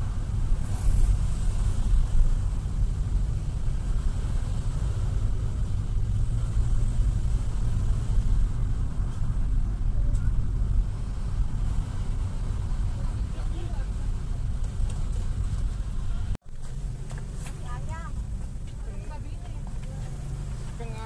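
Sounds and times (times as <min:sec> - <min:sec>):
car driving low rumble: 0:00.0 - 0:21.0.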